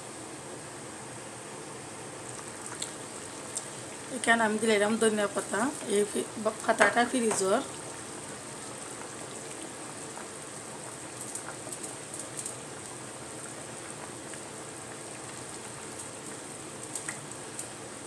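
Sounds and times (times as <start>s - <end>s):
curry bubbling in a pan: 2.1s - 18.0s.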